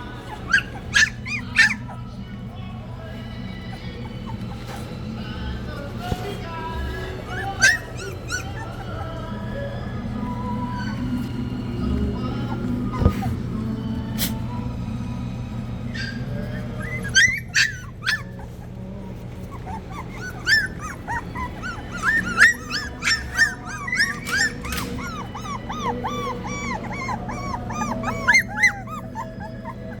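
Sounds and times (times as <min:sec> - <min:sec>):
puppies whimpering and yipping: 0:00.0 - 0:30.0
steady low hum: 0:00.0 - 0:30.0.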